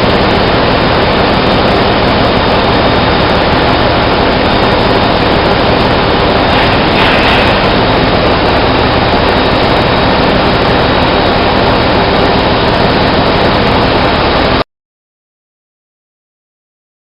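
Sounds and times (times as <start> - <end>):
machinery droning with low hum: 0.0 - 14.6.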